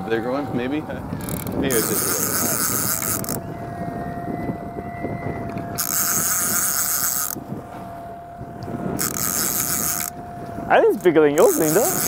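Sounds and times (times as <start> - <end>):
outboard motor hum: 0.0 - 12.0
wind on microphone: 0.0 - 12.0
fishing reel drag buzzing: 1.1 - 7.6, 8.6 - 12.0.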